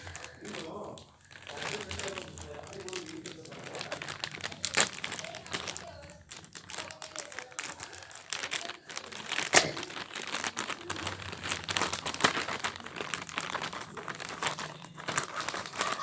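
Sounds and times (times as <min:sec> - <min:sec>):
packaging crinkling and crackling: 0:00.0 - 0:16.0.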